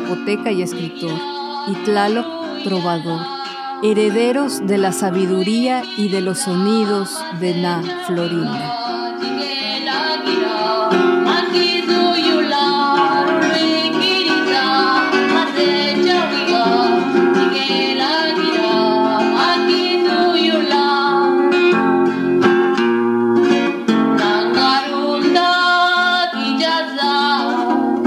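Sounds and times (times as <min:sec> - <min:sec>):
woman singing: 0:00.0 - 0:21.7, 0:24.2 - 0:28.0
plucked acoustic guitar: 0:00.0 - 0:28.0.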